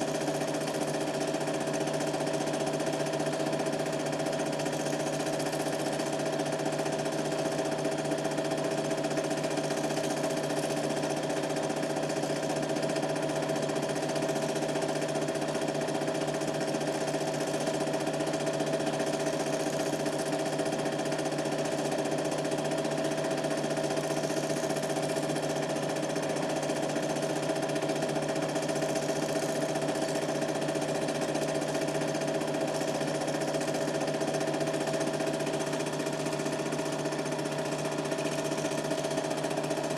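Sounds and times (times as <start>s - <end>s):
film projector motor whir: 0.0s - 39.9s.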